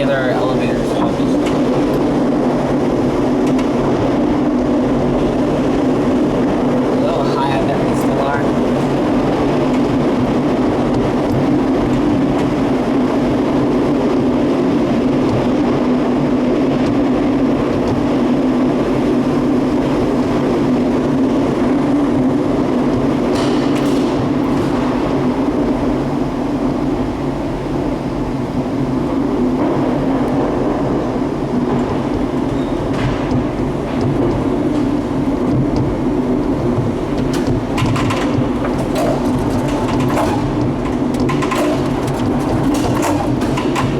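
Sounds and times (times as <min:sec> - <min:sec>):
tram rumbling and whirring: 0:00.0 - 0:43.9.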